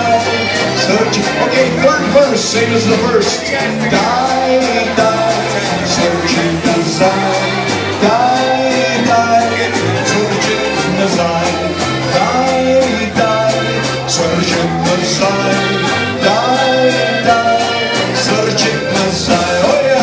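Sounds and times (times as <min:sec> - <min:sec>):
accordions: 0:00.0 - 0:20.0
electric guitars: 0:00.0 - 0:20.0
steady drum beat: 0:00.0 - 0:20.0.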